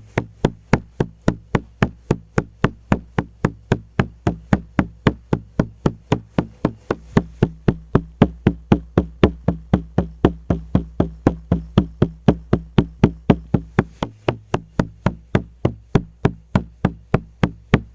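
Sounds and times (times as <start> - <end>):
frame drum beaten in steady rhythm: 0.0 - 17.9.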